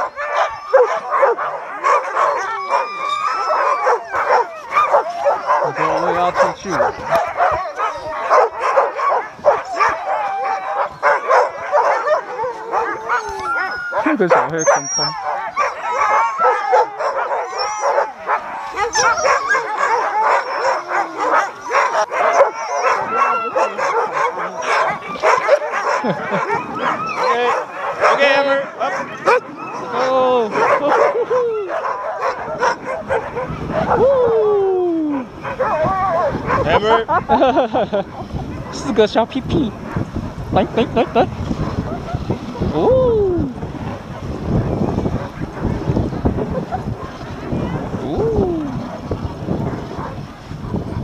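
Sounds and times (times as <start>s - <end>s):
sled dogs barking and howling: 0.0s - 51.0s.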